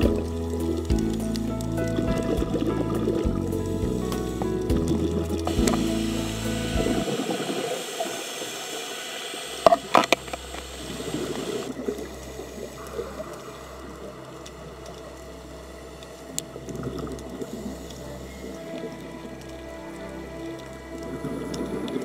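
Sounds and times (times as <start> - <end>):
underwater bubbling: 0.0 - 22.0.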